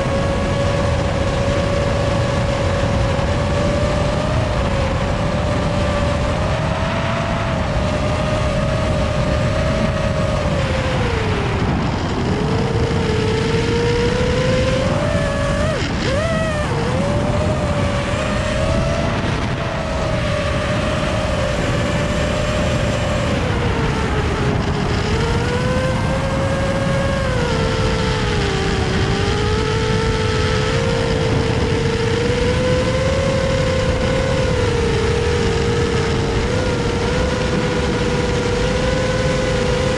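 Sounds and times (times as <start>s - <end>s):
drone motors whining: 0.0s - 39.9s
steady rushing noise: 0.0s - 39.9s.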